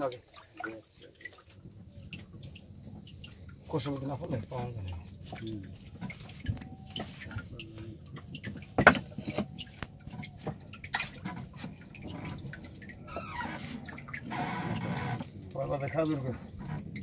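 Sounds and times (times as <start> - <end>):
water splashing and dripping: 0.0 - 17.0.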